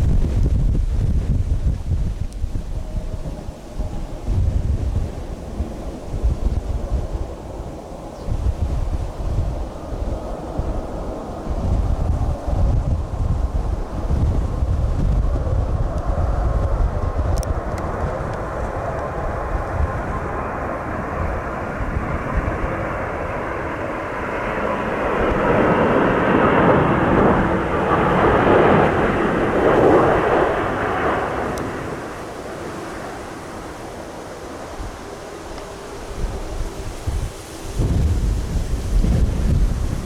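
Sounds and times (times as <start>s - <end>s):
jet airliner engine noise: 0.0s - 40.0s
wind rumbling on microphone: 0.0s - 40.0s.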